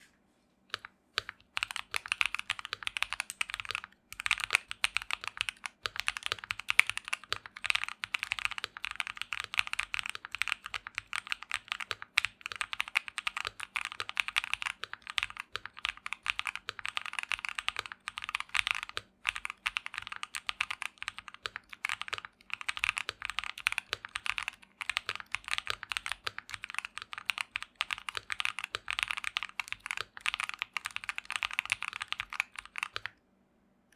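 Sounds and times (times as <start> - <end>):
mechanical keyboard keystroke clacks: 0.7 - 33.1.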